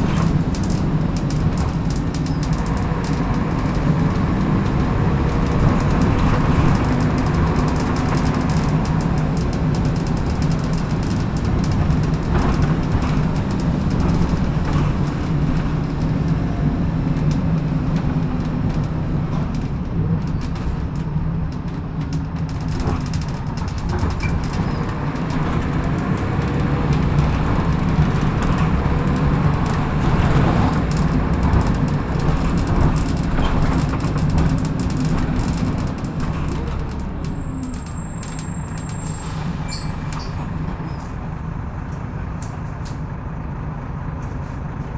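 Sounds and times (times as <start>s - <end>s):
body rattles and clicks: 0.0s - 41.2s
bus engine drone: 0.0s - 44.9s.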